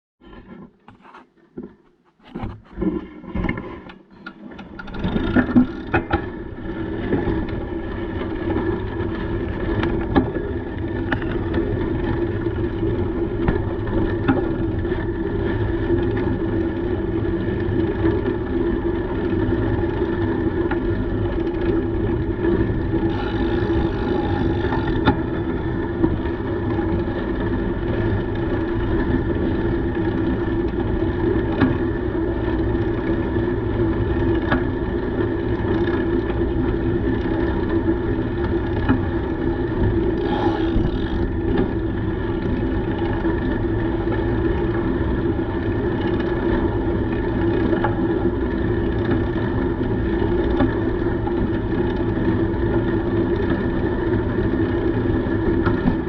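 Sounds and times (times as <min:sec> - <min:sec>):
bicycle tyres rolling: 0:00.2 - 0:56.0.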